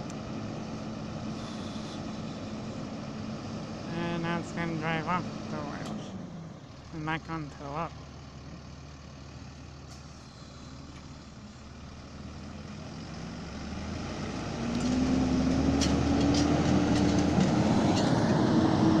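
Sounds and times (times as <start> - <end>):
truck engine driving past: 0.0 - 19.0.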